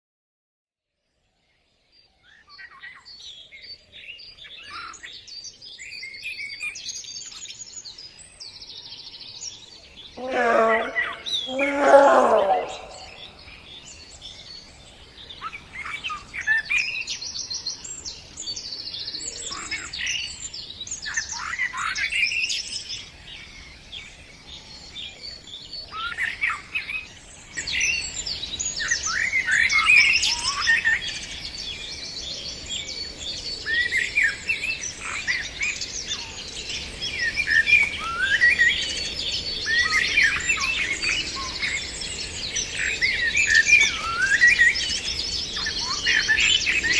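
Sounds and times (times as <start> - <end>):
birds chirping and singing: 2.3 - 46.9.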